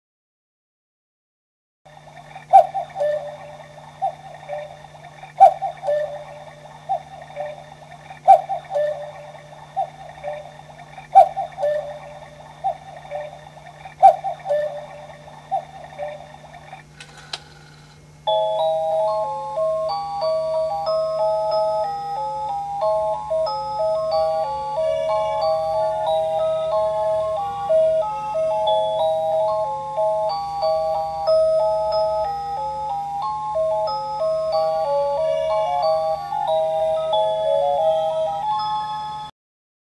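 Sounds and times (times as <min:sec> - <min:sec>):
electronic clock melody: 0:01.9 - 0:17.0, 0:18.2 - 0:39.3
electronic cuckoo call: 0:01.9 - 0:39.3.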